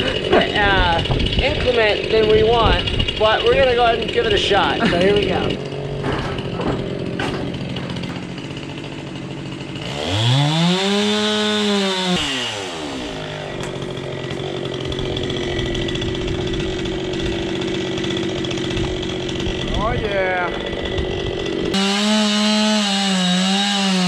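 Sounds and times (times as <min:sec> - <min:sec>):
chainsaw running and revving: 0:00.0 - 0:24.0.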